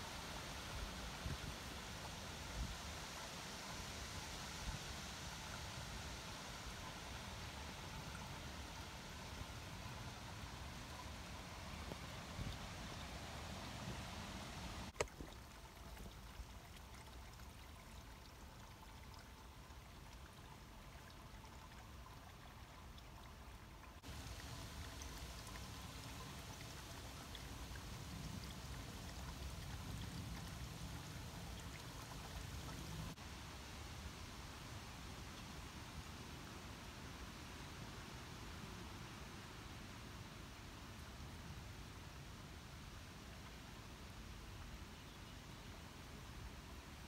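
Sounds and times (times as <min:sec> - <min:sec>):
low rumble with light hiss: 0:00.0 - 0:47.0.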